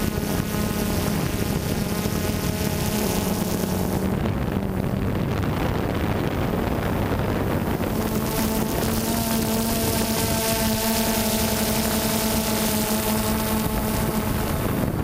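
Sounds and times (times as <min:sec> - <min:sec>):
drone motors buzzing: 0:00.0 - 0:15.0.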